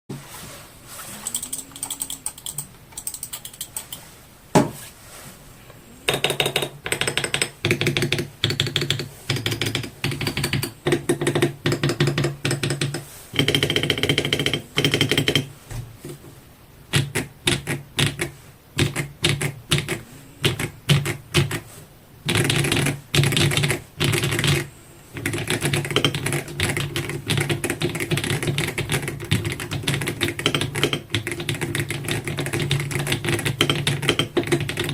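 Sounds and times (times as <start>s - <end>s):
clacky mechanical keyboard typing: 1.2s - 4.0s, 6.1s - 15.5s, 16.9s - 21.7s, 22.3s - 34.9s.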